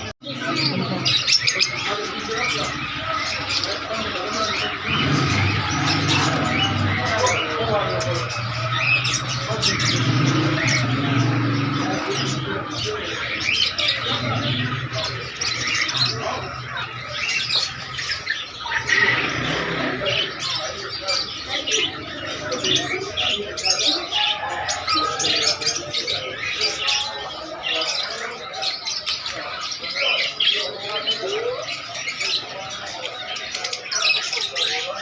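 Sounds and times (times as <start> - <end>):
birds chirping and squawking: 0.0 - 35.0.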